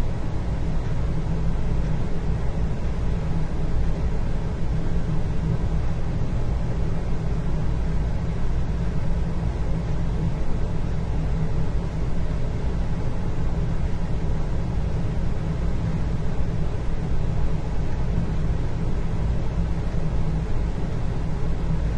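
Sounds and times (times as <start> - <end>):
low indoor rumble: 0.0 - 21.9.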